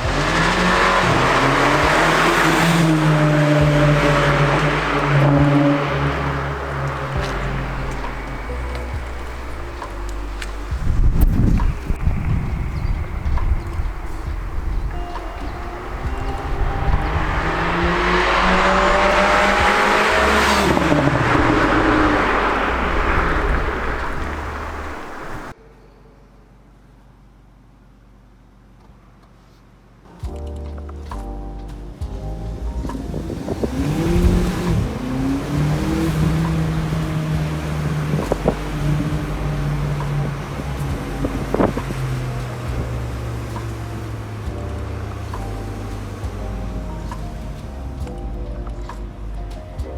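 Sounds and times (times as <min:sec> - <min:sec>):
car engine revving: 0:00.0 - 0:25.5, 0:32.0 - 0:49.9
exhaust cracks: 0:00.0 - 0:25.6, 0:30.2 - 0:49.9.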